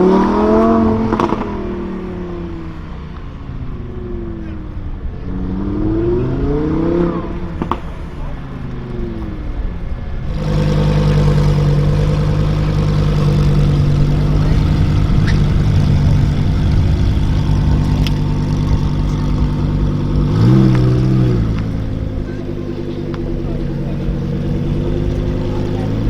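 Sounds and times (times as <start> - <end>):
car engine idling with rev blip: 0.0 - 26.0.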